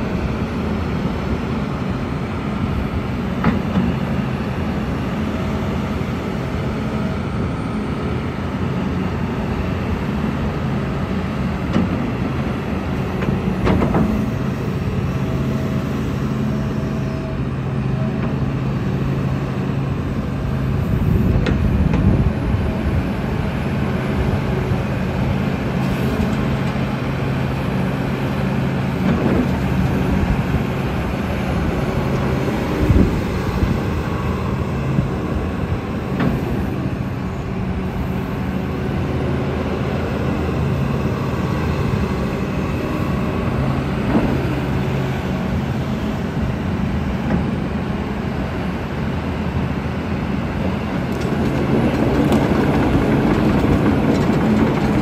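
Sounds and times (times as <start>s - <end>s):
excavator diesel engine running: 0.0s - 55.0s
hydraulic boom and bucket working: 0.0s - 55.0s.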